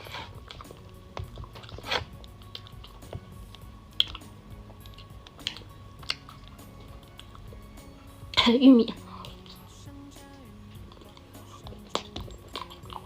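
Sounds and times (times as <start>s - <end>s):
person chewing food: 0.0s - 8.4s, 9.0s - 13.0s
quiet background music: 0.0s - 13.0s.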